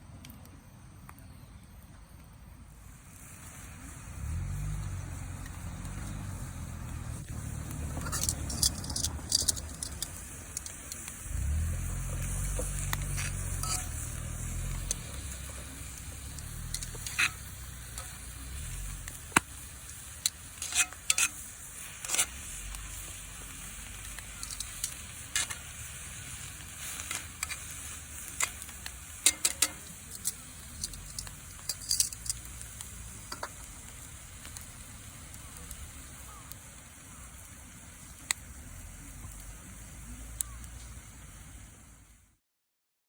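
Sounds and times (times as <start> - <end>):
campfire crackling and popping: 2.8 - 42.2.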